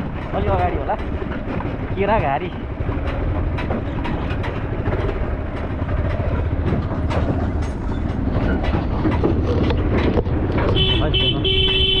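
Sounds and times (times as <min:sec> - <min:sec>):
knocks and rattles: 0:00.0 - 0:12.0
motorcycle engine running: 0:00.0 - 0:12.0.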